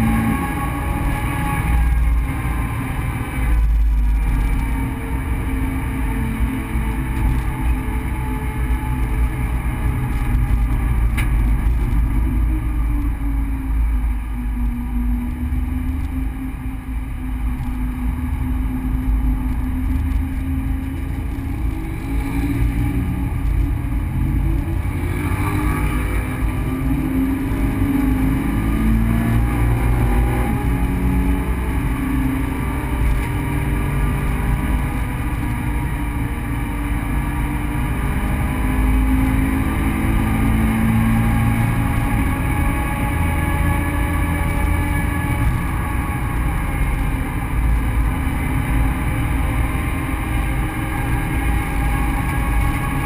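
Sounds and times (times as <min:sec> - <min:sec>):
car engine from inside cabin: 0:00.0 - 0:53.0
road and tyre rumble: 0:00.0 - 0:53.0.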